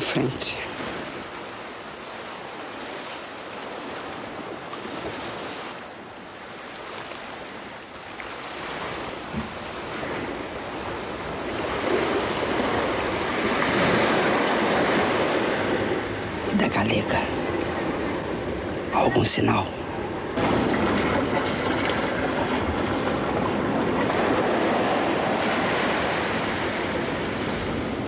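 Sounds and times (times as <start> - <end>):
surf washing onto beach: 0.0 - 28.0.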